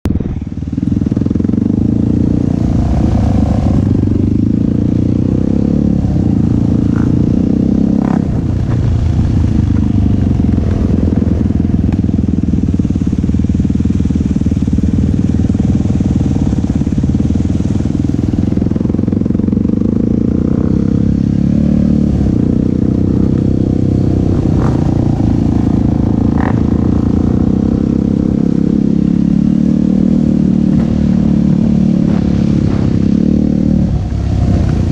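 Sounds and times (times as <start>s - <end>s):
quad engine running: 0.0s - 34.9s.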